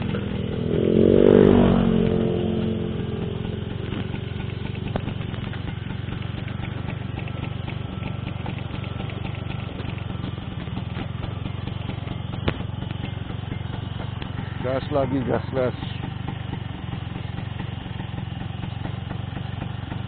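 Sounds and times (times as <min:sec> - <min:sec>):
motorbike engine idling: 0:00.0 - 0:20.0.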